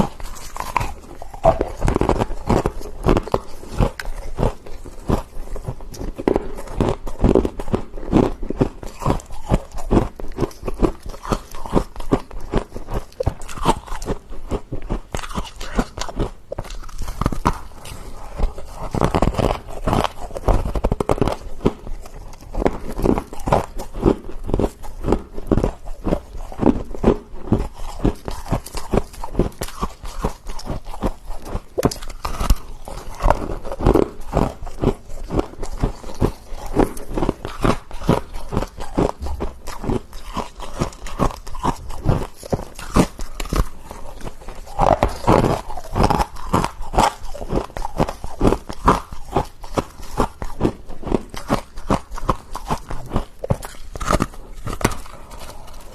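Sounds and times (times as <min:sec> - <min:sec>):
frost being chewed: 0:00.0 - 0:55.9.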